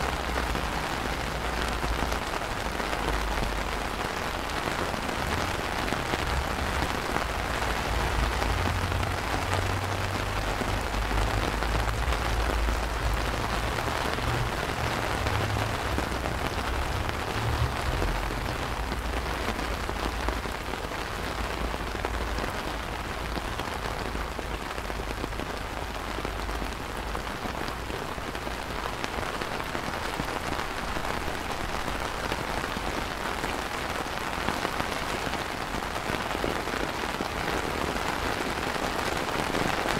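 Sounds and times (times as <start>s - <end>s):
rain on stone paving: 0.0s - 39.9s.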